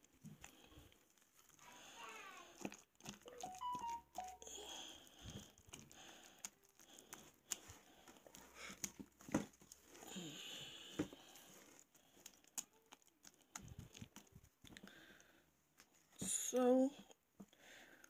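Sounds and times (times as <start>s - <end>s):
spatula stirring wet paste: 0.0s - 16.5s.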